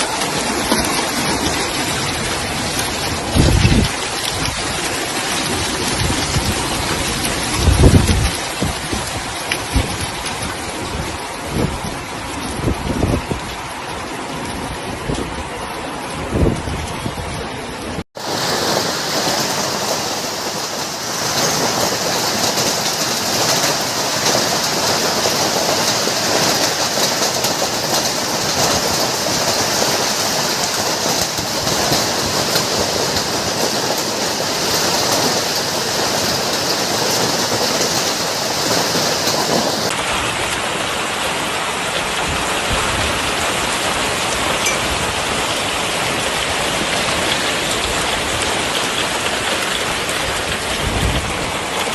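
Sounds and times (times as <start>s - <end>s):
hail and heavy rain: 0.0s - 51.9s.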